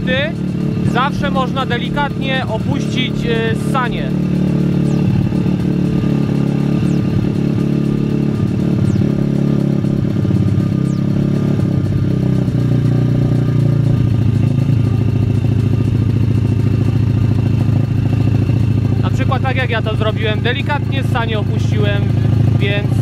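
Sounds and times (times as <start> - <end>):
motorbike engine idling: 0.0 - 23.0.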